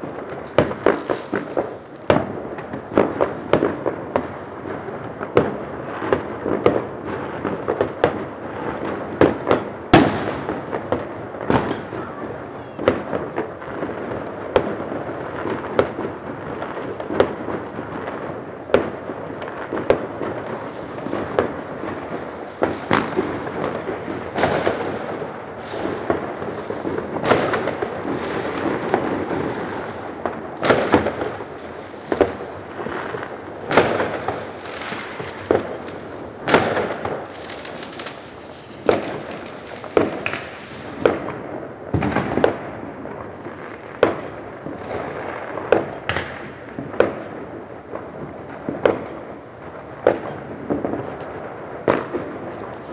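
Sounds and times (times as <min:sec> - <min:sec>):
firecracker bangs: 0:00.0 - 0:52.9
fireworks crackling: 0:00.0 - 0:52.9.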